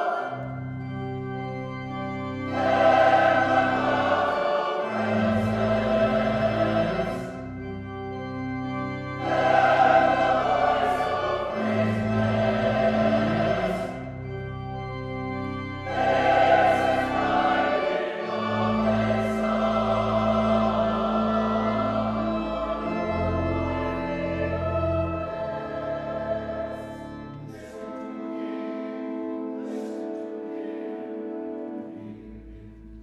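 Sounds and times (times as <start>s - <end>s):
choir singing: 0.0s - 33.0s
organ chords: 0.0s - 33.0s.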